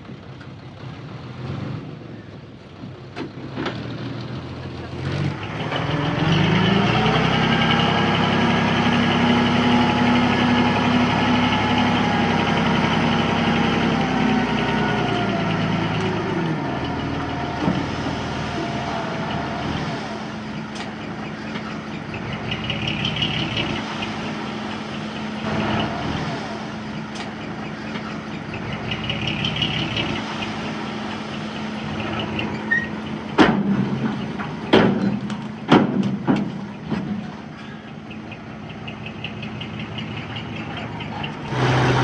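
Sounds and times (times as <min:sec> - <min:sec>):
heavy diesel engine revving: 0:00.8 - 0:02.2, 0:03.4 - 0:42.0.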